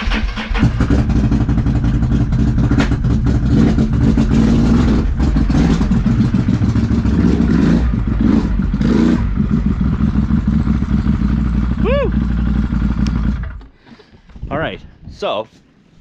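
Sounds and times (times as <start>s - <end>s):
atv engine running loud: 0.6s - 13.6s.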